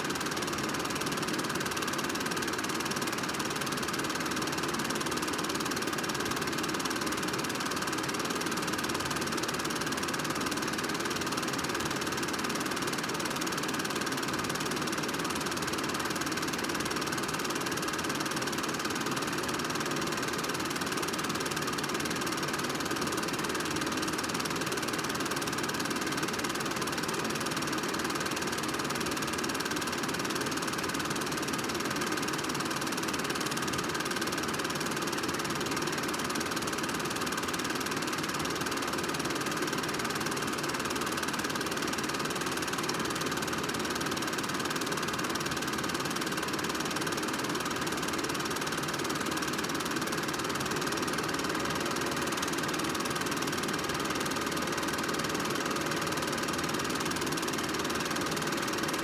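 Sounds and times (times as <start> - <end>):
film projector running: 0.0 - 59.0.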